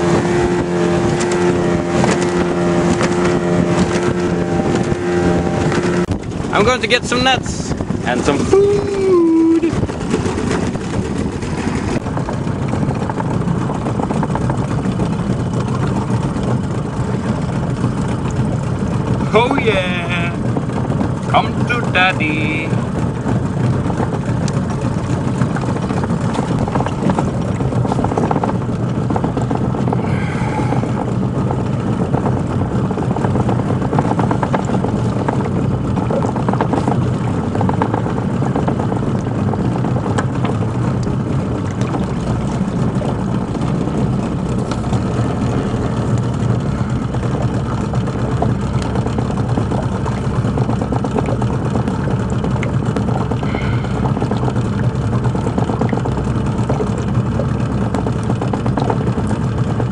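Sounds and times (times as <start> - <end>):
outboard motor idling: 0.0 - 59.9.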